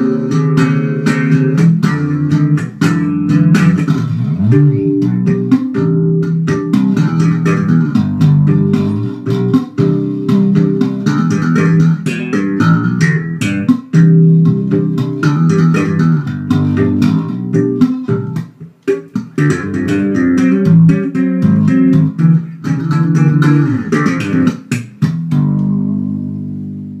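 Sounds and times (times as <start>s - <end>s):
electric bass guitar playing: 0.0s - 27.0s.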